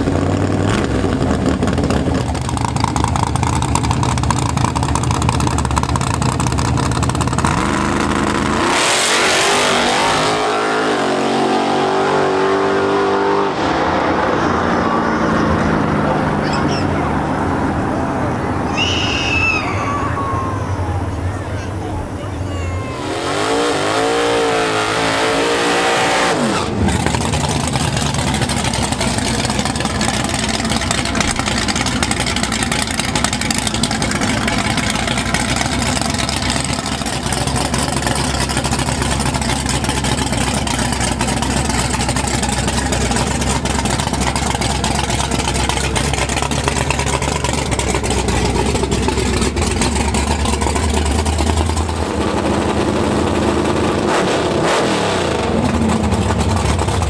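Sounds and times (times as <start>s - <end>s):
race car engine revving: 0.0s - 19.0s, 22.8s - 57.0s.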